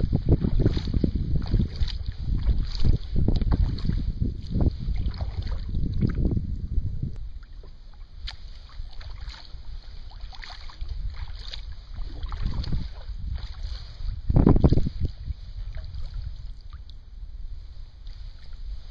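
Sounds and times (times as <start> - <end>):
paddle splashing in water: 0.0 - 6.3, 7.2 - 17.0, 18.0 - 18.9
wind rumbling on microphone: 0.0 - 18.9.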